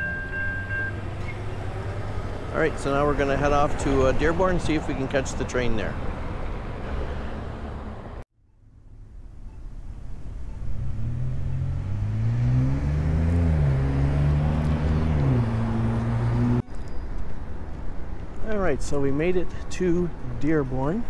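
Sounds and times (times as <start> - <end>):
outdoor ambience: 0.0 - 21.0.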